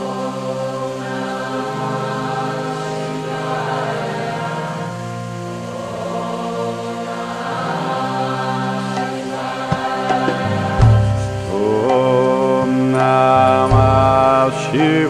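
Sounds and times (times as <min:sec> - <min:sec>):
person singing long sliding notes: 0:00.0 - 0:15.0
sustained drone: 0:00.0 - 0:15.0.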